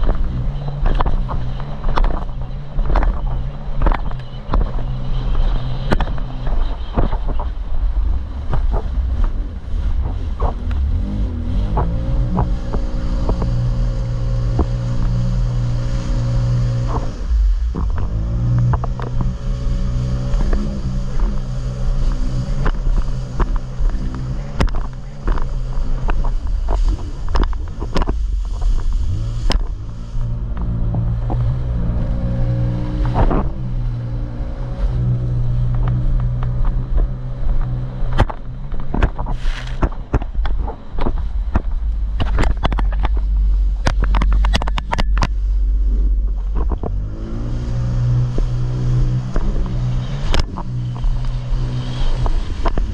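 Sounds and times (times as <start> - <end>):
jet ski engine running: 0.0 - 52.9
wind buffeting microphone: 0.0 - 52.9.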